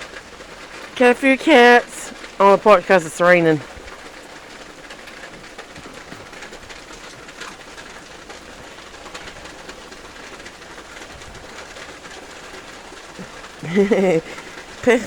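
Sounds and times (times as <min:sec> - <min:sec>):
steady rain with dripping: 0:00.0 - 0:15.0.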